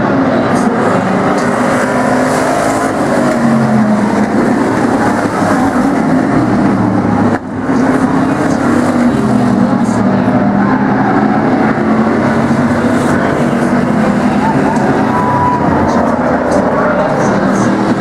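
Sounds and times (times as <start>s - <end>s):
racing truck engines: 0.0s - 18.0s.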